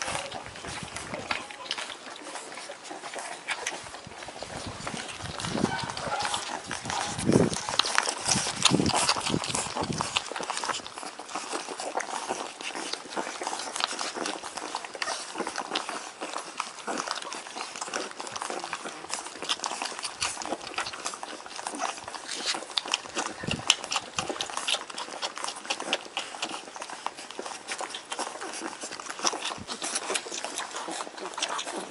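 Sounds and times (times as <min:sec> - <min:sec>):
puppies suckling: 0:00.0 - 0:31.9
puppy whimpers: 0:00.0 - 0:31.9.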